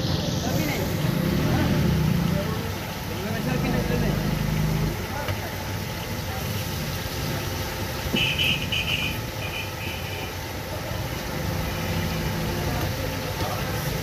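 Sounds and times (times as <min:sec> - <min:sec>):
patties sizzling in oil: 0:00.0 - 0:14.0.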